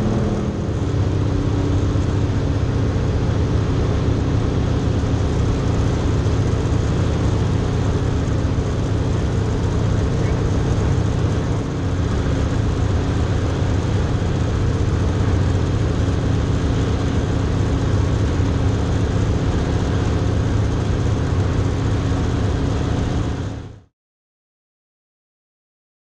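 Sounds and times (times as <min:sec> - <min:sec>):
airplane engine and propeller drone: 0:00.0 - 0:23.9.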